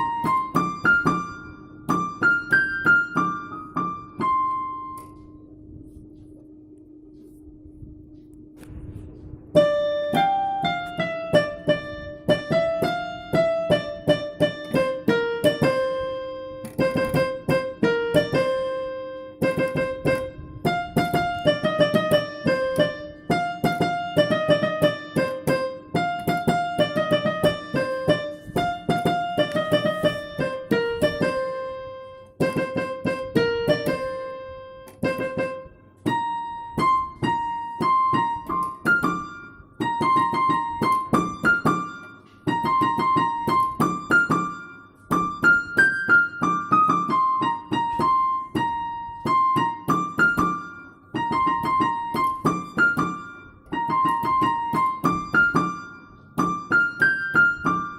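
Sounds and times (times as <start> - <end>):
piano melody: 0.0 - 57.9.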